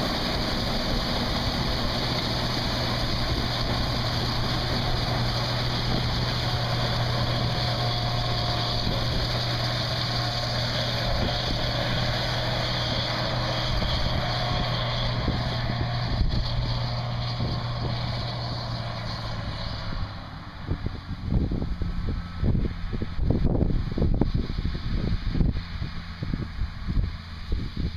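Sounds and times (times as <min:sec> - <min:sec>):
machinery rushing: 0:00.0 - 0:27.8
combine harvester engine drone: 0:00.0 - 0:27.9.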